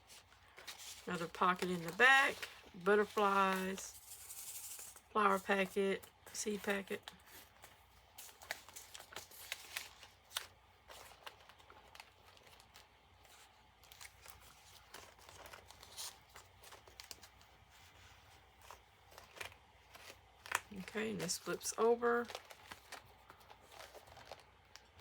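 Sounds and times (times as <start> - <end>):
light paper crinkles and taps: 0.0 - 4.1, 6.7 - 25.0
paper pages rustling and sliding: 0.0 - 5.7, 7.2 - 25.0.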